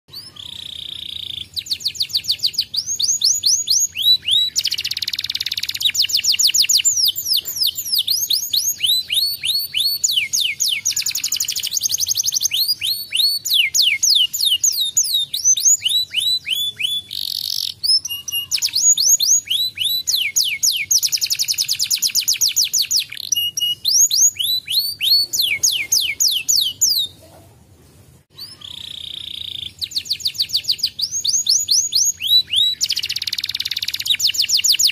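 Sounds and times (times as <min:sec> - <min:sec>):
canary singing trills: 0:00.1 - 0:27.3, 0:28.3 - 0:34.9.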